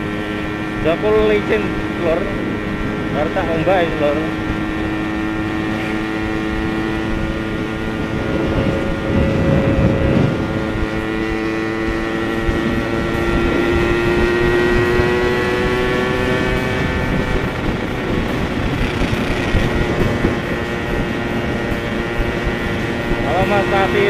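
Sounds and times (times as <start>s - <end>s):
motorcycle engine cruising: 0.0s - 24.0s
wind rush on microphone: 0.0s - 24.0s.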